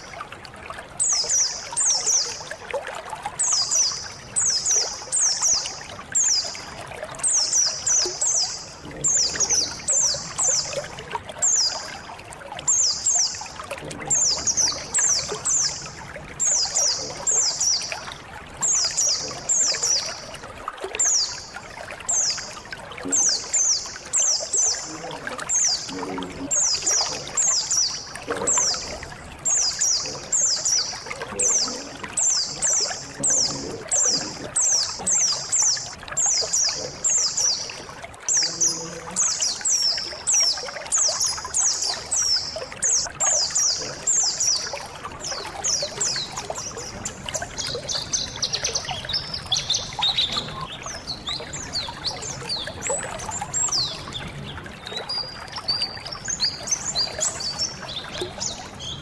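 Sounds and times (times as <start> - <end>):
birds chirping in a group: 0.0 - 0.3, 1.0 - 2.7, 3.3 - 59.0
trickling water: 0.0 - 59.0.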